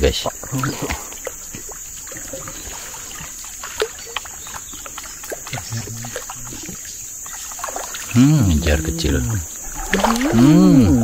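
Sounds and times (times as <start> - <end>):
drips: 0.0 - 11.0
water trickling and splashing: 0.0 - 11.0.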